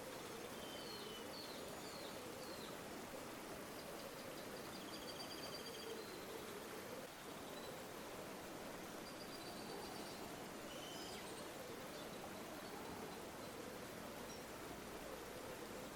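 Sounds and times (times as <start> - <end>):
river flowing: 0.0 - 4.8, 5.5 - 15.9.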